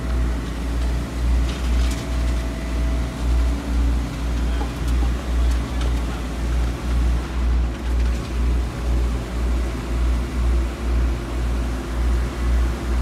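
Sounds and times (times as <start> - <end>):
concrete pump low rumble: 0.0 - 13.0.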